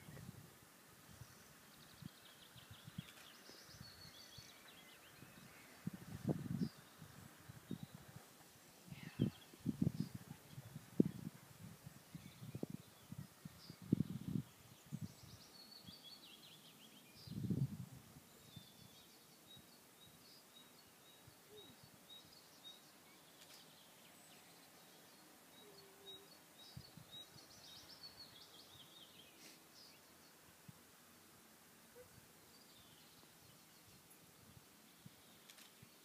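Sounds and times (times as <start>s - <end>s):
songbirds singing: 1.0s - 8.3s, 8.9s - 30.7s, 31.9s - 36.0s.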